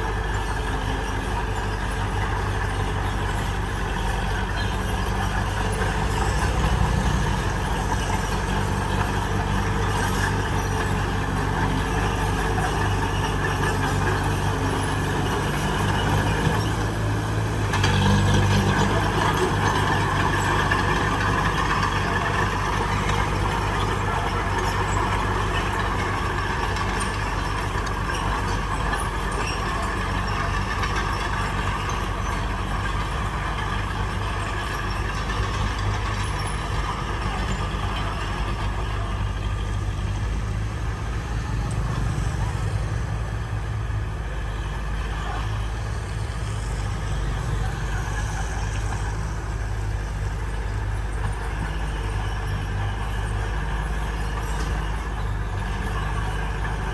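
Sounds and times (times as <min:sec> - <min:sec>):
heavy diesel engine under load: 0:00.0 - 0:56.9.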